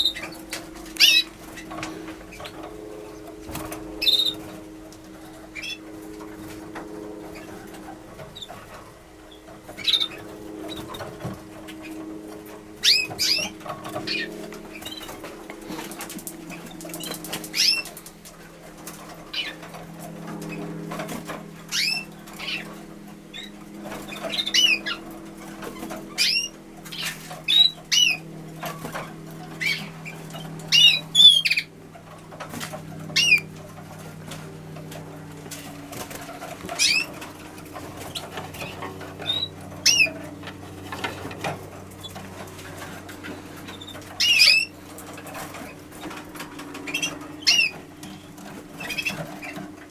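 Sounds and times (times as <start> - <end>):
canaries chirping: 0.0 - 49.9
low hum: 0.0 - 49.9
wing flutters: 0.0 - 49.9.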